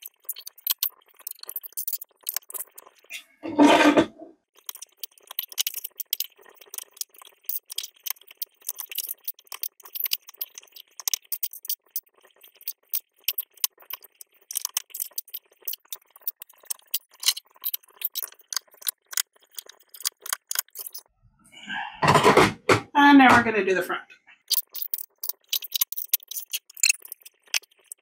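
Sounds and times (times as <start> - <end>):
plastic pieces clicking and rattling: 0.0 - 3.1, 4.6 - 21.0, 24.4 - 28.0.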